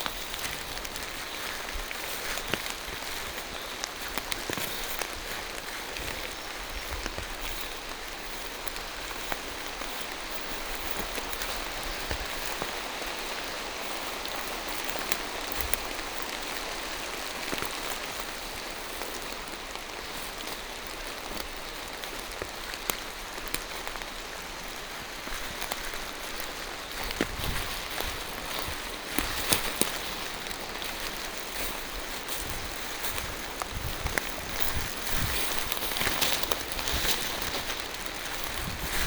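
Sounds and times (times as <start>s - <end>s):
rain on foliage: 0.0s - 39.0s.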